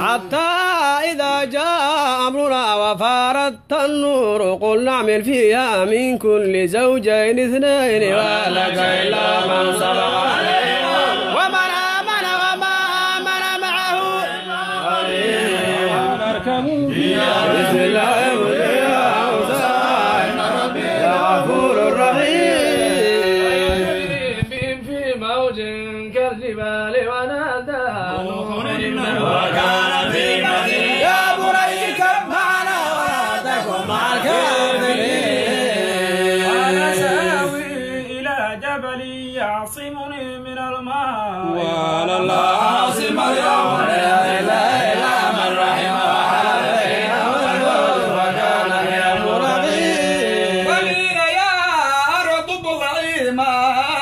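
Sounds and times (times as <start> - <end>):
man chanting recitation: 0.0 - 54.0.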